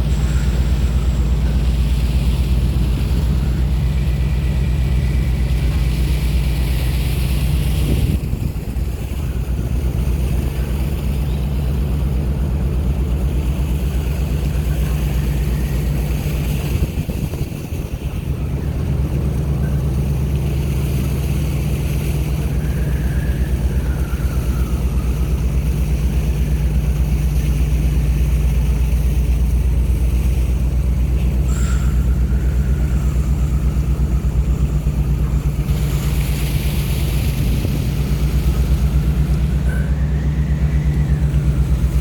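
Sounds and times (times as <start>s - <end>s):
motor droning: 0.0s - 42.0s
rushing wind and water: 0.0s - 42.0s.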